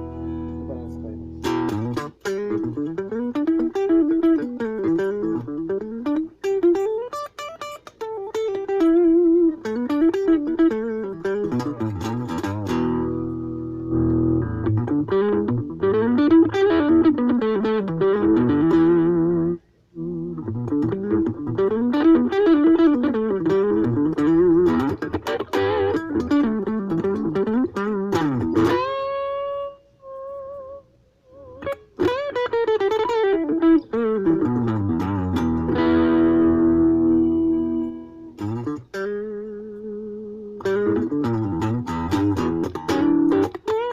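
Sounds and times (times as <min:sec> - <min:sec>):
electric guitar melody: 0:00.0 - 0:43.9.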